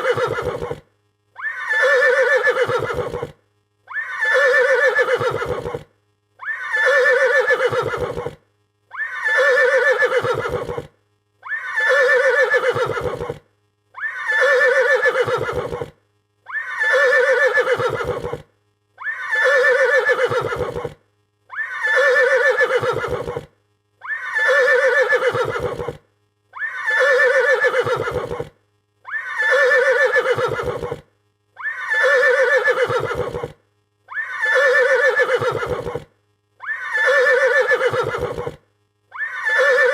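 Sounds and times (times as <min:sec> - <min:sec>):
horse neighing in fright: 0:00.0 - 0:00.8, 0:01.4 - 0:13.4, 0:14.0 - 0:15.9, 0:16.5 - 0:18.4, 0:19.0 - 0:26.0, 0:26.6 - 0:28.5, 0:29.1 - 0:31.0, 0:31.6 - 0:39.9.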